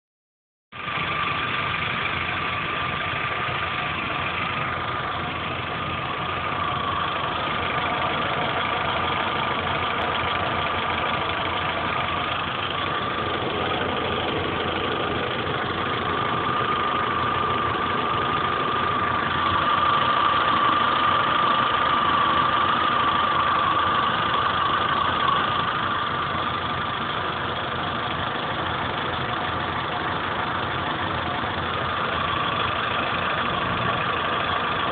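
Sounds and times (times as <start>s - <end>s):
car engine idling: 0.7s - 34.9s
engine tapping: 0.8s - 34.9s.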